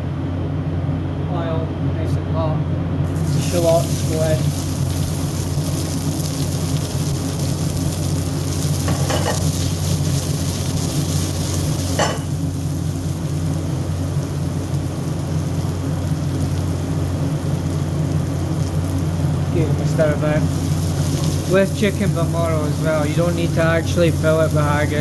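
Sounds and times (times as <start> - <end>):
steady low hum: 0.0 - 25.0
shallots sizzling in hot oil: 3.1 - 25.0.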